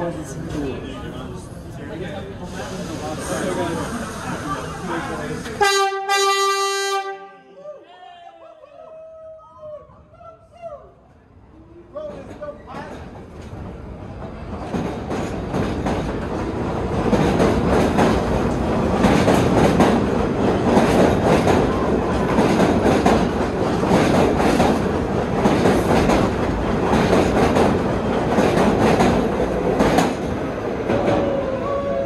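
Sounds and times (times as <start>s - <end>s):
subway train wheels clicking: 0.0s - 6.9s, 9.6s - 32.0s.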